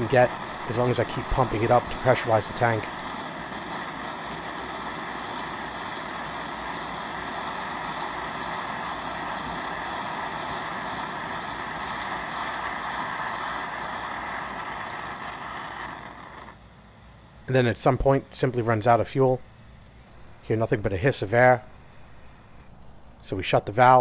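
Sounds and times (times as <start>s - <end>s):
gas stove burner rushing: 0.0s - 22.7s.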